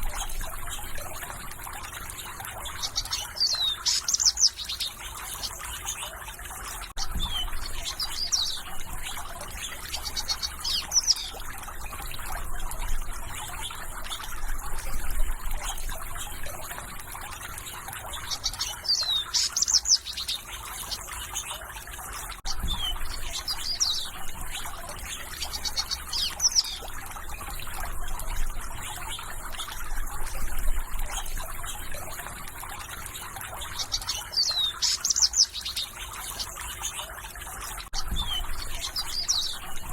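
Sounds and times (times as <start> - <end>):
birds singing: 0.0 - 39.9
trickling water or insects: 0.0 - 39.9.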